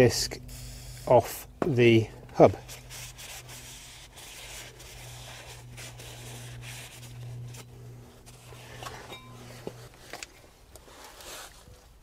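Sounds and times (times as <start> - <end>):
steady low hum: 0.0 - 11.3
cloth rubbing on metal disc: 0.1 - 11.8.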